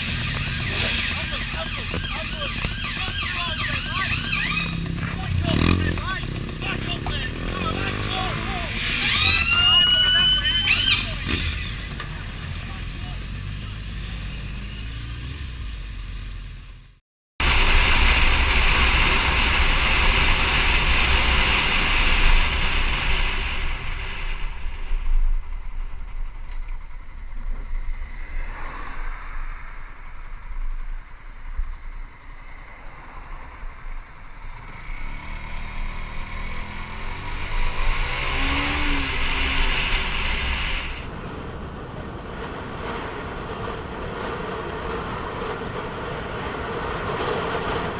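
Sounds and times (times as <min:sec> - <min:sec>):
vehicle engine and road rumble: 0:00.0 - 0:47.9.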